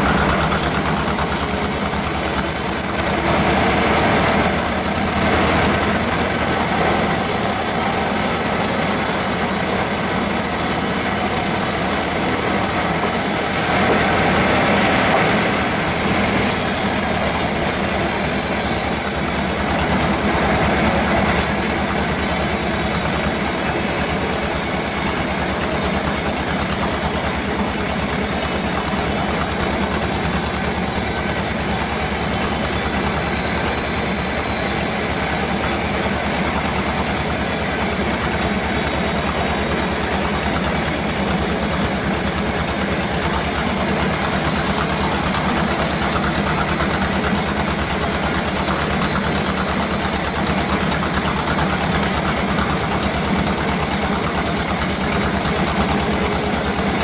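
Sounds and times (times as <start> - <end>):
band saw cutting log: 0.0 - 57.0.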